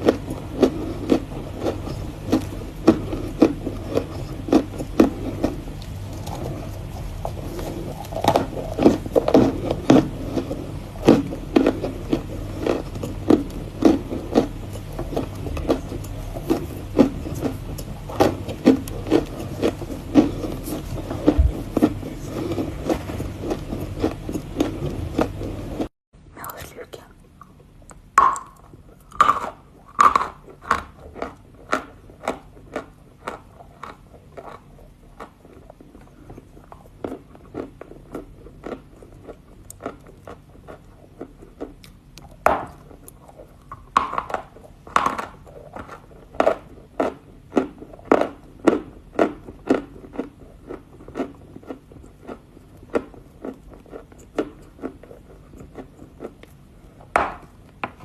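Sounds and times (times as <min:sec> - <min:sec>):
crunchy food being chewed: 0:00.0 - 0:58.0.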